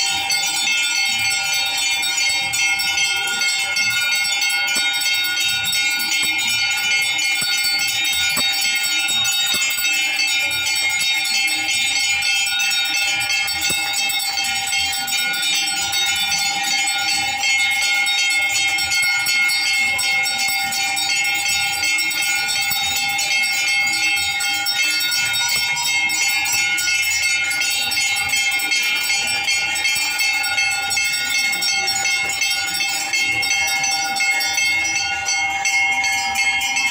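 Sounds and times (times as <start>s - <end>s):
bells ringing rapidly: 0.0s - 36.9s.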